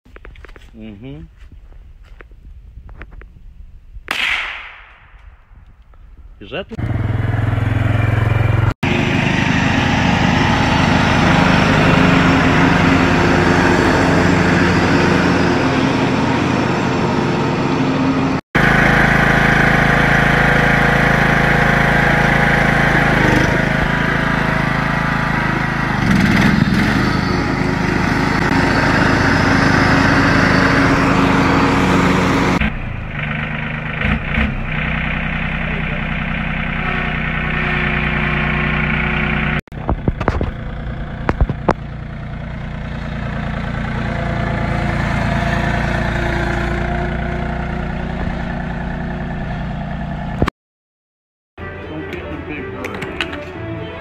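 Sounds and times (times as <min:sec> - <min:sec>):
riding lawn mower engine running: 0:06.5 - 0:50.5, 0:51.6 - 0:54.0
small gasoline engines running: 0:06.8 - 0:50.5.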